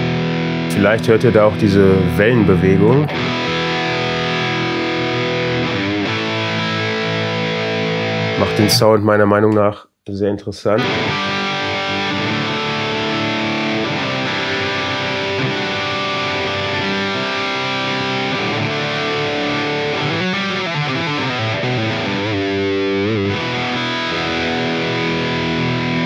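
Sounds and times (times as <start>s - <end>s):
distorted electric guitar: 0.0s - 9.0s, 10.8s - 26.0s.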